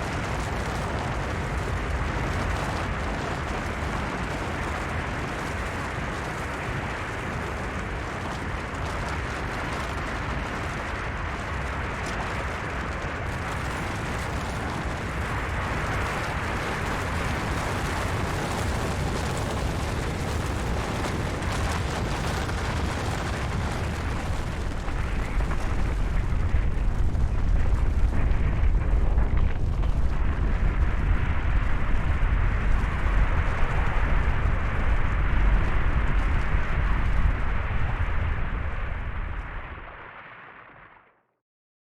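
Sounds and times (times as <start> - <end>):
crackling: 0.0 - 40.9
deep rumble of sliding snow: 0.0 - 40.9.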